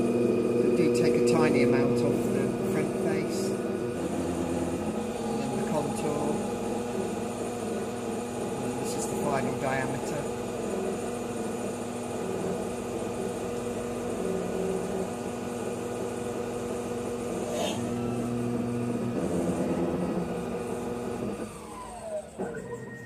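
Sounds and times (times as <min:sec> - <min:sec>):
lathe spindle whining: 0:00.0 - 0:23.0.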